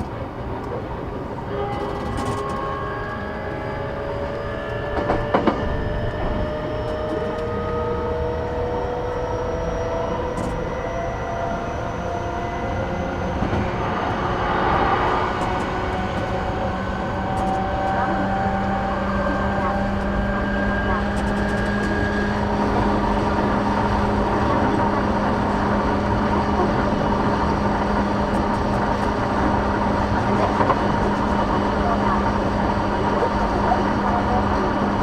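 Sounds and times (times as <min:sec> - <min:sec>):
wheels rumbling on track: 0:00.0 - 0:35.0
traction motor whine: 0:01.4 - 0:35.0.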